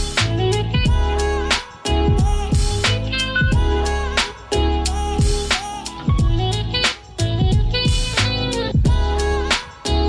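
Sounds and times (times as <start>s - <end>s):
music with beat and deep bass: 0.0s - 10.0s.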